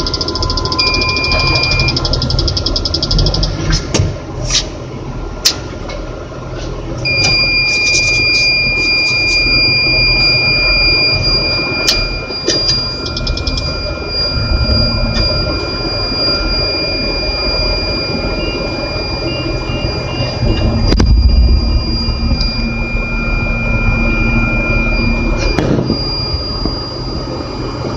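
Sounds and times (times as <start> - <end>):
continuous high alarm tone: 0.0 - 3.8, 7.0 - 27.9
dashed warning beeping: 0.0 - 3.8, 7.1 - 27.9
crane engine rumble: 0.0 - 27.9.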